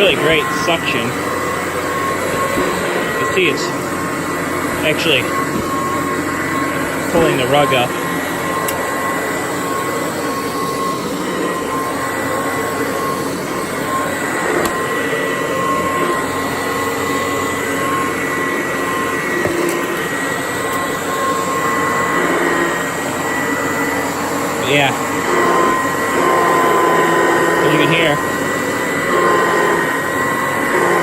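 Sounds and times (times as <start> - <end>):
vacuum cleaner whirring on carpet: 0.0 - 31.0.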